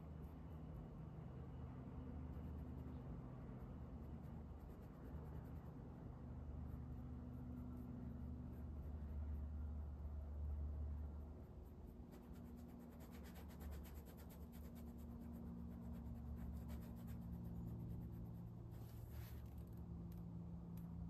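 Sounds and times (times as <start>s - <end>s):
steady low hum: 0.0s - 21.0s
paintbrush scratching on canvas: 2.2s - 19.9s.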